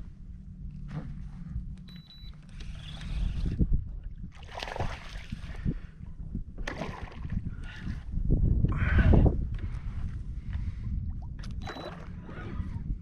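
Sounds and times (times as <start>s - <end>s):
wind buffeting microphone: 0.0s - 13.0s
water splashing and sloshing: 0.6s - 8.2s, 9.5s - 12.7s.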